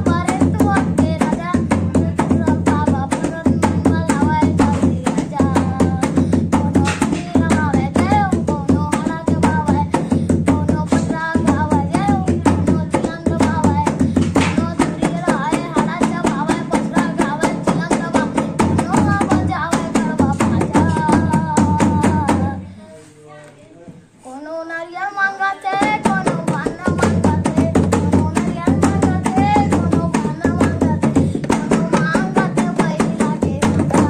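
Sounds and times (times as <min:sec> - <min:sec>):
dholak drumming: 0:00.0 - 0:22.6, 0:25.6 - 0:34.0
boy singing devotional song: 0:00.0 - 0:23.5, 0:24.1 - 0:34.0.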